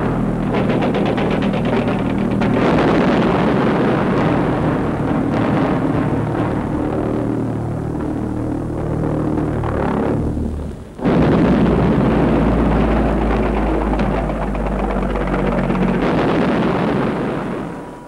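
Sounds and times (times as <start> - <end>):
explosion roar: 0.0 - 18.0
pulse-jet engine droning: 0.0 - 18.0.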